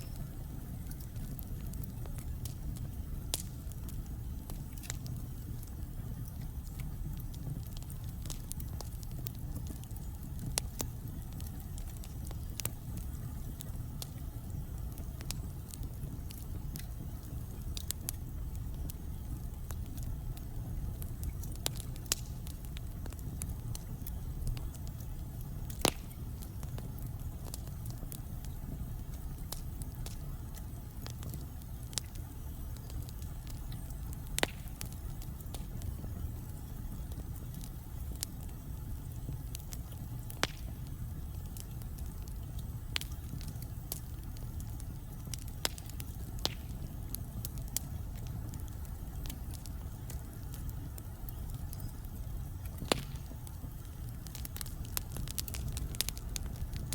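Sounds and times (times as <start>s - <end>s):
fire flames rumbling: 0.0s - 56.9s
logs crackling and popping: 0.0s - 56.9s.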